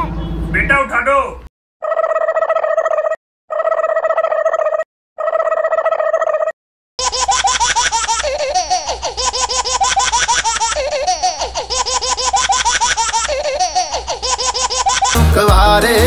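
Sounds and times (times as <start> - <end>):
child giggling sound effect: 1.8 - 15.2.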